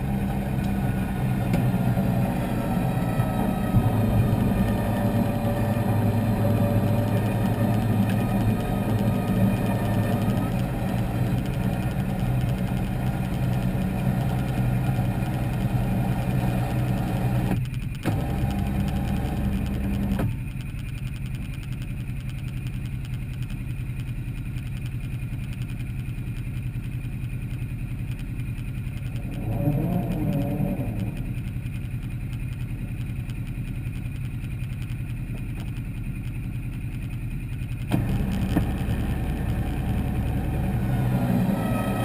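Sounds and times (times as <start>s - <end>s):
engine idling: 0.0s - 42.0s
low hum: 0.0s - 42.0s.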